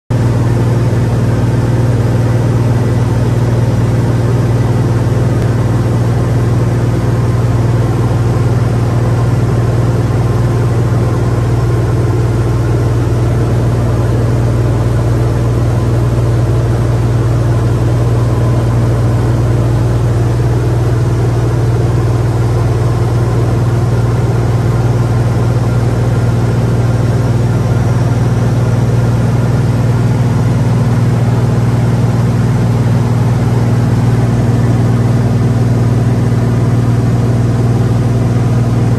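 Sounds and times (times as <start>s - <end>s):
aircraft engine and propeller drone: 0.1s - 38.9s.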